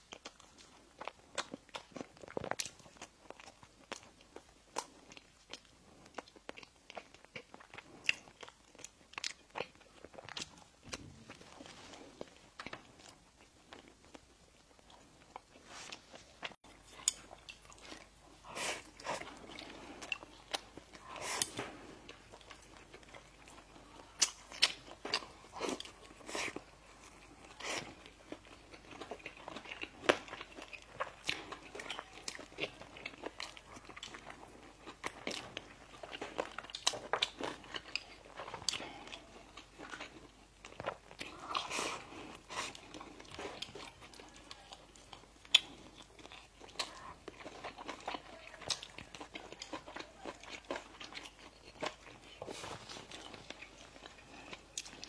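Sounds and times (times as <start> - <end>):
chewing crunchy bread: 0.0 - 55.0.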